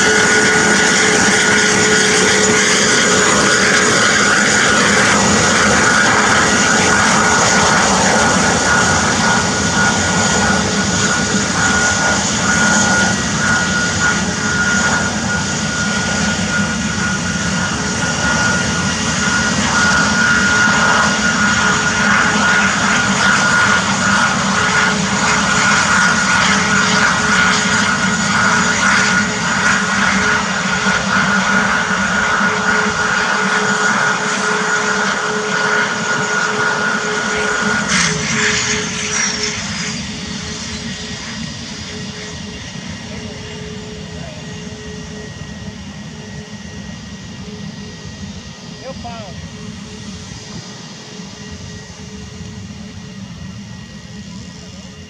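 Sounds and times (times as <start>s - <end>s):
jet engine whine: 0.0s - 55.0s.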